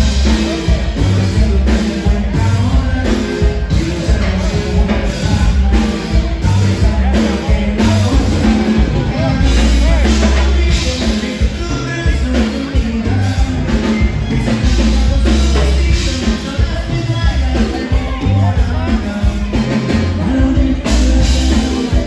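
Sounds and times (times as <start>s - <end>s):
accordion-led dance band: 0.0s - 22.0s
person singing: 0.0s - 22.0s.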